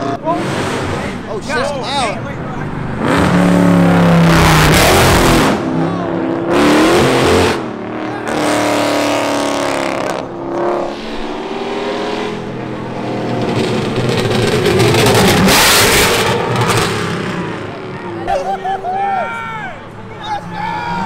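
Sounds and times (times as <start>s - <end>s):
approaching car engine: 0.0s - 18.3s
car engine revving: 0.0s - 18.3s.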